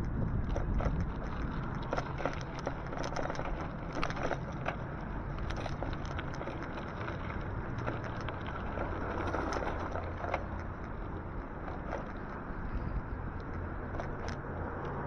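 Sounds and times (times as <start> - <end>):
light rattles: 0.0 - 15.0
road rumble: 0.0 - 15.0
wind: 0.0 - 15.0.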